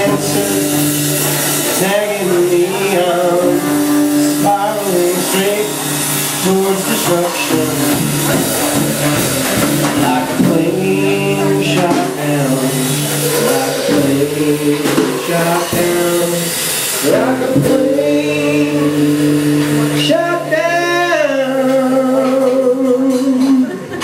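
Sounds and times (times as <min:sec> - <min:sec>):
acoustic guitar strumming: 0:00.0 - 0:23.9
drum kit: 0:00.0 - 0:24.0
person singing: 0:00.0 - 0:24.0.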